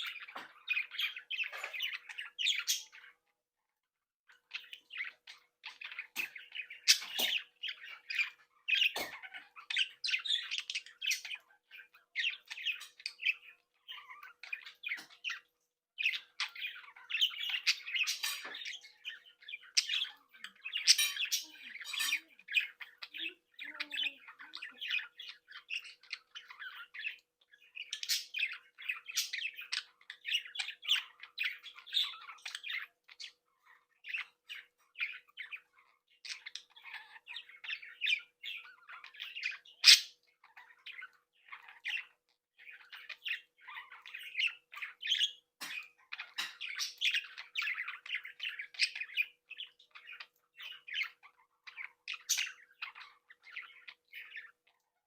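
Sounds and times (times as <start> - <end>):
budgerigars chattering and squawking: 0.0 - 3.3, 4.3 - 55.0.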